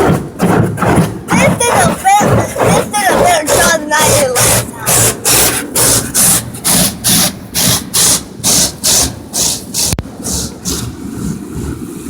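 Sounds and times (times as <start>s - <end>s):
car wash brushes swishing: 0.0s - 12.0s.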